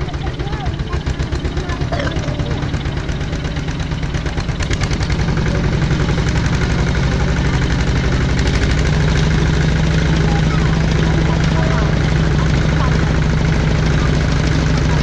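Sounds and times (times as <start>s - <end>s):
diesel engine running rapidly: 0.0s - 15.0s.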